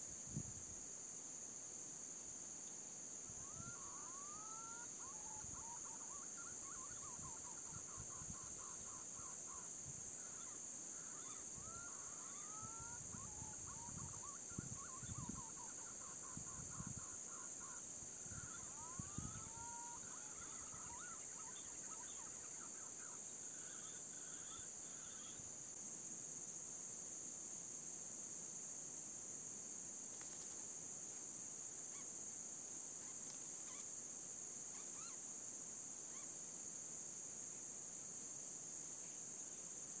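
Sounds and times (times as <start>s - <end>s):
high insect drone: 0.0s - 40.0s.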